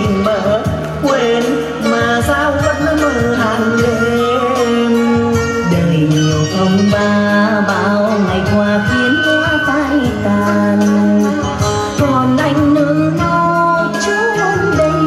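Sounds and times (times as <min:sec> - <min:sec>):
live instrumental accompaniment: 0:00.0 - 0:15.0
woman singing a slow love song: 0:00.0 - 0:15.0.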